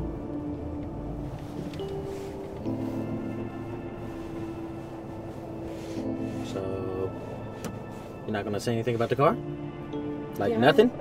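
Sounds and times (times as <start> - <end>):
sustained orchestral chord: 0.0 - 11.0.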